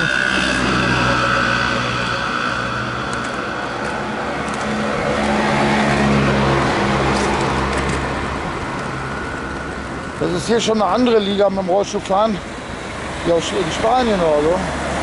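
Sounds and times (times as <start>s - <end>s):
vehicle engine running: 0.0s - 14.7s
road noise: 0.0s - 15.0s.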